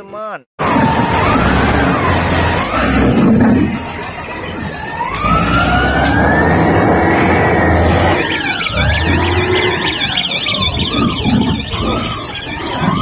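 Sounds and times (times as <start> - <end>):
siren wailing: 0.6 - 13.0
fast warbling tone: 1.2 - 13.0.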